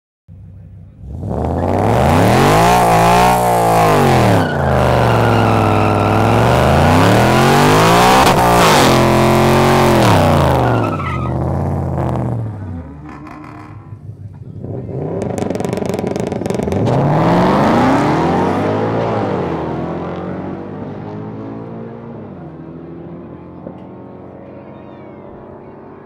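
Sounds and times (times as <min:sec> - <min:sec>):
car engine revving: 0:00.5 - 0:26.0.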